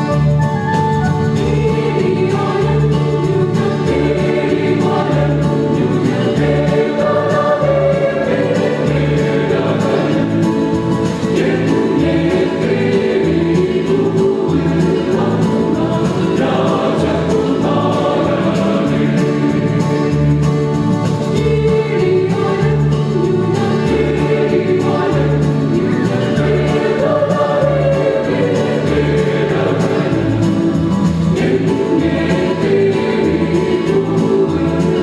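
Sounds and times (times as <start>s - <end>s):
choir singing a carol: 0.0s - 0.4s, 1.2s - 35.0s.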